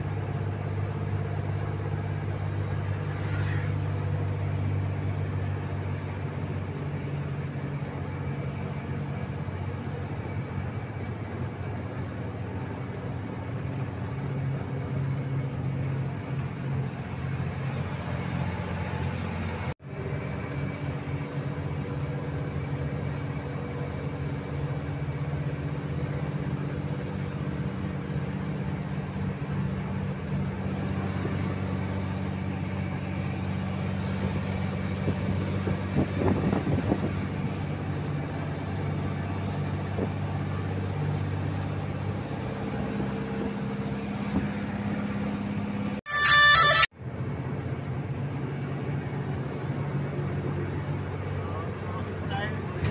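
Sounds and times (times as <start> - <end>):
truck engine drone: 0.0 - 52.9
tyre and road noise: 0.0 - 52.9.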